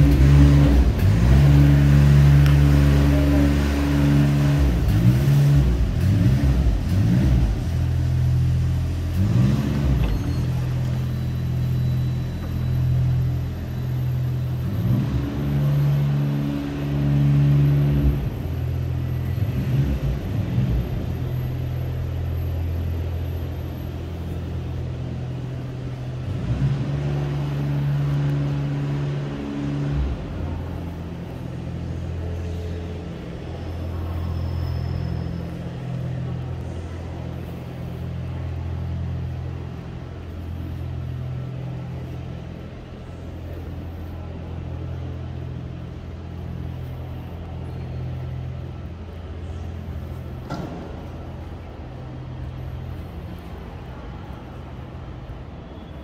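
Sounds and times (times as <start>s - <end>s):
low mechanical hum and rumble: 0.0s - 56.0s.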